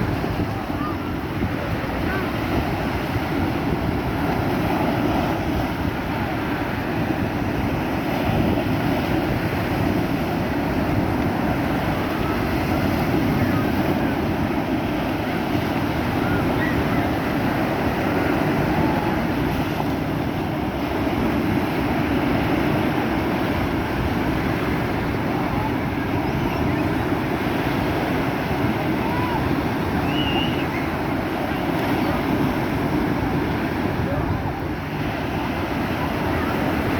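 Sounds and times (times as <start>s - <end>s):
waves washing onto shore: 0.0s - 36.9s
wind rumbling on microphone: 0.0s - 36.9s.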